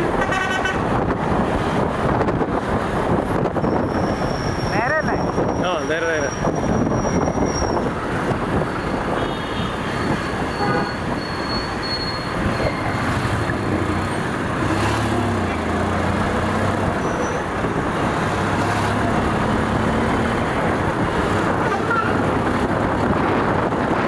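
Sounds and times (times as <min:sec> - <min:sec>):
street traffic: 0:00.0 - 0:24.0
wind and road rush on microphone: 0:00.0 - 0:24.0.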